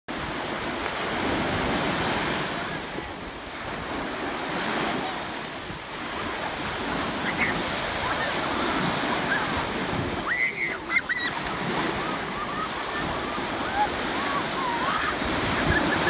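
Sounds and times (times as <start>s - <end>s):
small waves breaking on sand: 0.1s - 16.0s.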